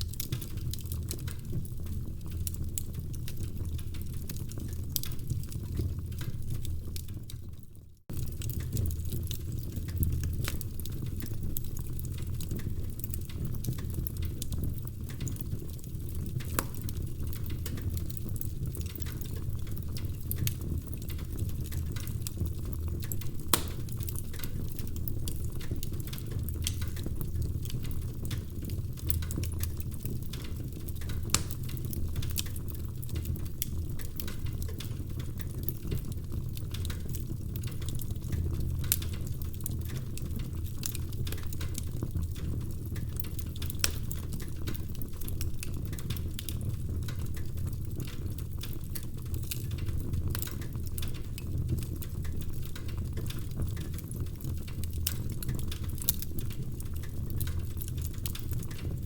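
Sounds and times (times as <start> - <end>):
fire rumbling: 0.0 - 59.0
logs crackling and popping: 0.0 - 59.0.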